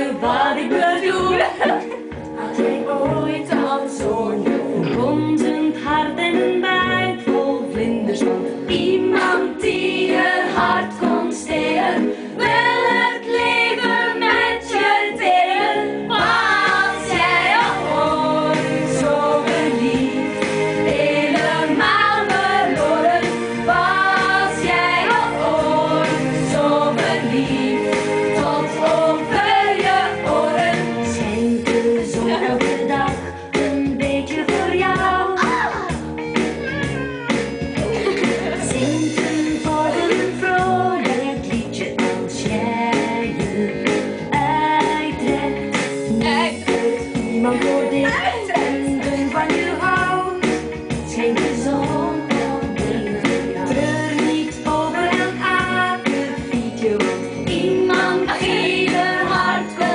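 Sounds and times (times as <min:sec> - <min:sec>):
women singing together: 0:00.0 - 0:35.8, 0:37.9 - 0:59.9
pop backing track: 0:00.0 - 0:59.9.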